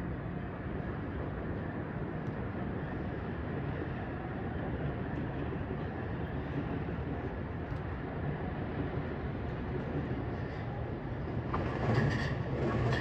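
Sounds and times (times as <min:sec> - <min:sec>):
distant rail activity: 0:00.0 - 0:13.0.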